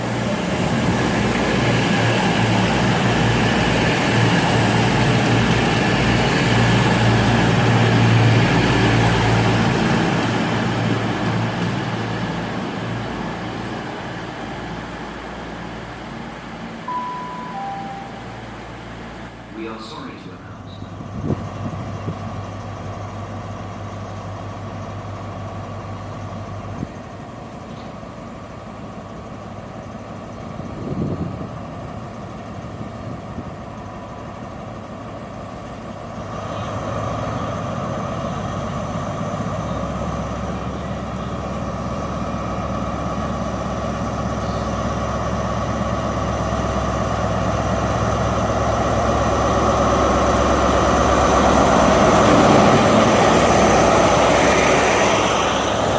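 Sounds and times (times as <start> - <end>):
diesel train engines idling: 0.0 - 55.9
train engine powering up: 0.0 - 55.9.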